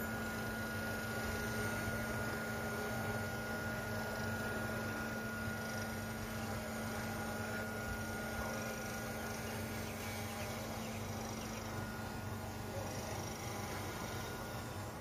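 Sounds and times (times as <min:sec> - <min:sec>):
drone propellers whirring: 0:00.0 - 0:02.8, 0:05.6 - 0:15.0.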